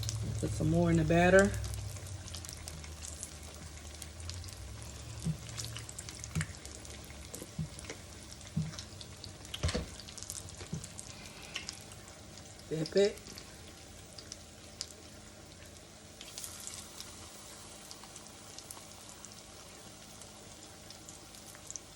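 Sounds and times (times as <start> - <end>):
food frying in hot oil: 0.0 - 21.9.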